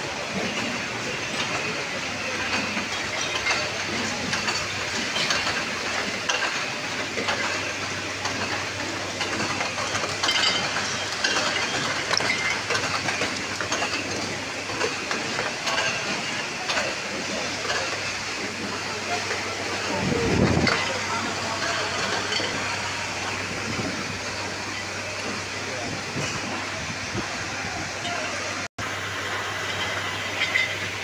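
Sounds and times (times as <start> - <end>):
machinery humming: 0.0 - 31.0
glass bottles clinking: 0.3 - 27.2, 29.2 - 31.0.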